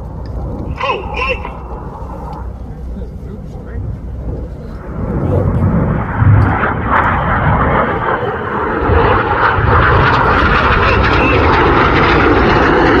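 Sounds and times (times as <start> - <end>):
jet aircraft roar flying over: 0.0 - 13.0.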